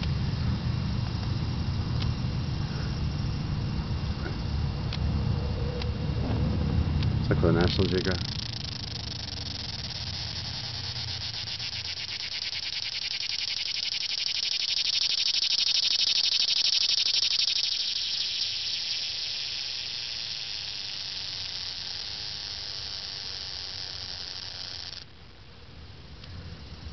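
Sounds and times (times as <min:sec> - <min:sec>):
cicada buzzing: 0:00.0 - 0:25.4.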